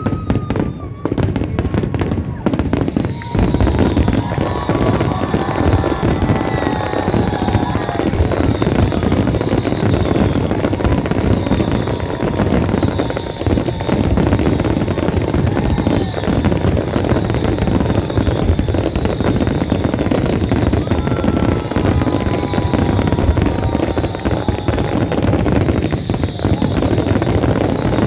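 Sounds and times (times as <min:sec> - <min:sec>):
fireworks bursting and crackling: 0:00.0 - 0:28.0
high whistling fireworks: 0:00.0 - 0:28.0.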